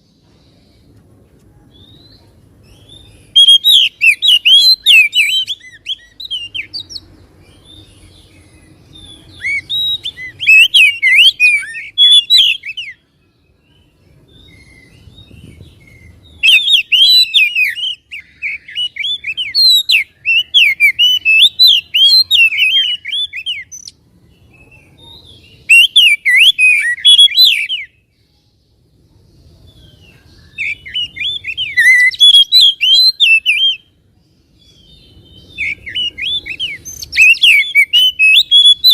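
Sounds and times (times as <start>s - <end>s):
bird whistling and chirping: 1.7s - 13.0s, 13.7s - 24.0s, 24.6s - 28.0s, 29.8s - 34.0s, 34.6s - 38.9s.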